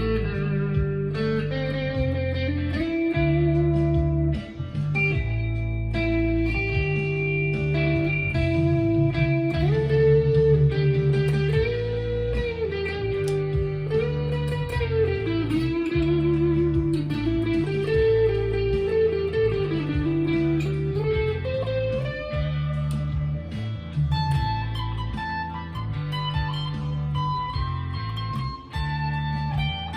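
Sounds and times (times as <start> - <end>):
electric guitar lead with bends: 0.0 - 29.9
low guitar notes: 0.0 - 29.9.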